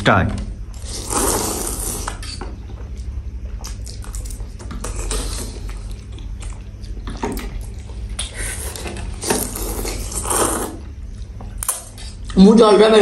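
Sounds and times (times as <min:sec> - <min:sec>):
people chewing noodles: 0:00.7 - 0:12.4.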